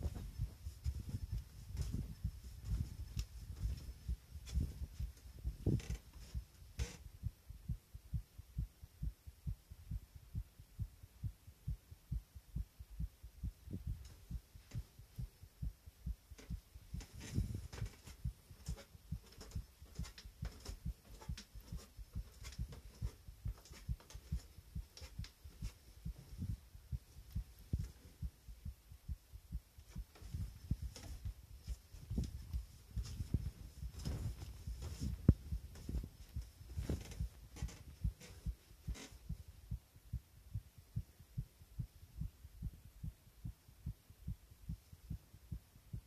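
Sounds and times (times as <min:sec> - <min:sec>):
heartbeat thuds: 0:00.0 - 0:46.0.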